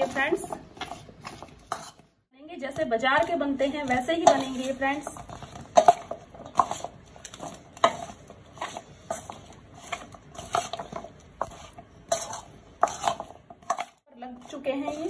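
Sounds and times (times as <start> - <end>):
metal spoon scraping steel bowl: 0.0 - 2.1, 3.2 - 15.0.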